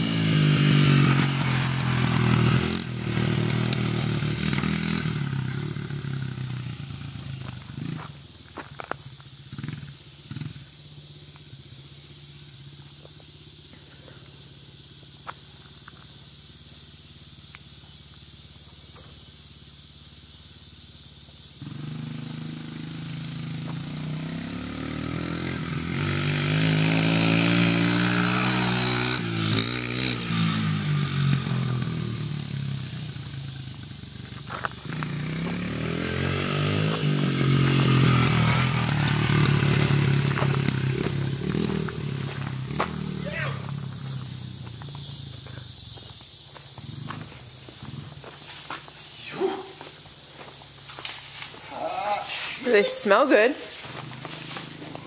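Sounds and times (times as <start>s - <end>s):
dirt bike engine revving: 0.0s - 15.5s, 21.5s - 55.0s.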